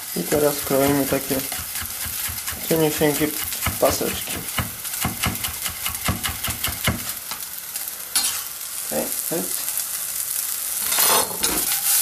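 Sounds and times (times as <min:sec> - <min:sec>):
rice sizzling in saucepan: 0:00.0 - 0:12.0.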